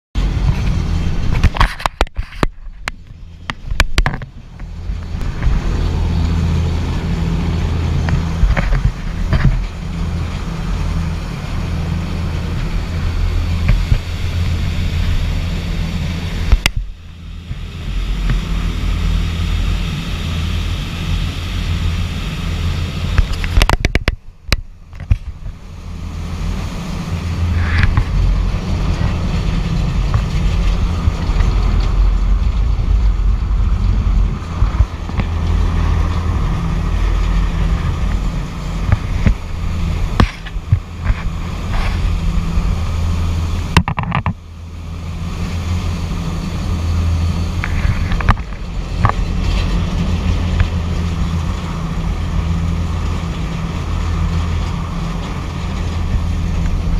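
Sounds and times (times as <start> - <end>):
ferry engine drone: 0.1 - 56.9
rushing wake of boat: 0.2 - 56.9
wind rumble on microphone: 0.2 - 56.9.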